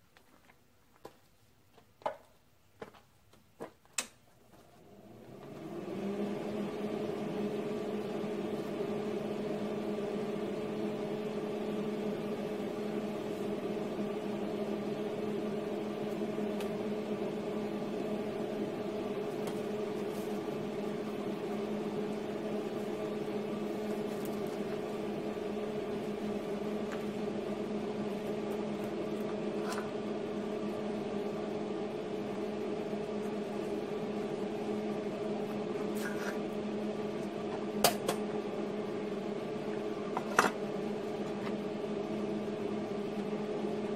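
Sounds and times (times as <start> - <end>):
welder humming: 5.2 - 43.9.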